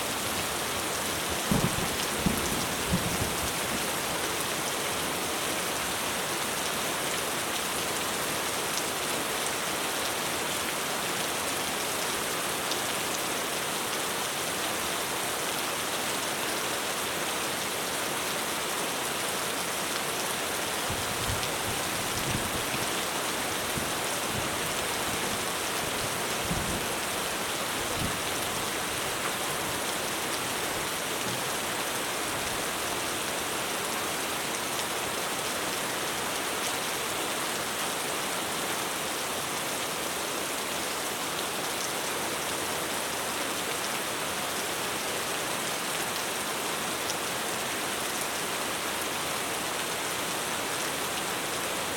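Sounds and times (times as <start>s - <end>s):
heavy rain drumming on a roof: 0.0s - 51.9s.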